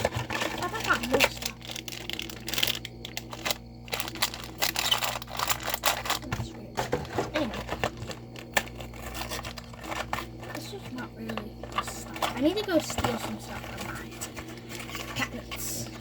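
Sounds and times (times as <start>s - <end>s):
plastic containers clicking: 0.0s - 16.0s
snack packaging rustling: 0.0s - 16.0s
steady low hum: 0.0s - 16.0s.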